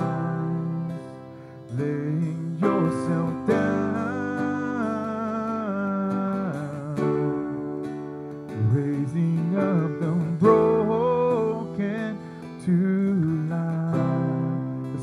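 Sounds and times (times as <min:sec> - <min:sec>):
violin sliding melody: 0:00.0 - 0:13.9
acoustic guitar strumming: 0:00.0 - 0:15.0
keyboard: 0:00.0 - 0:15.0.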